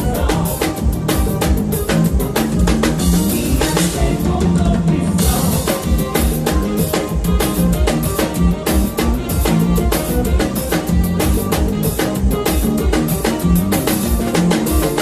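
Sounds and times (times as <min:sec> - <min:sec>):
band music: 0:00.0 - 0:15.0
drum kit playing fast groove: 0:00.0 - 0:15.0.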